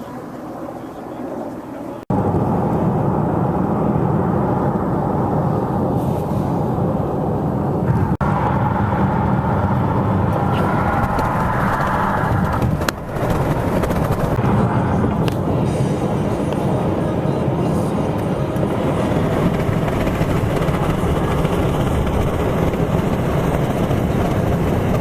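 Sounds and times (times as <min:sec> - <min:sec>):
loud steady rumbling: 0:00.0 - 0:25.0.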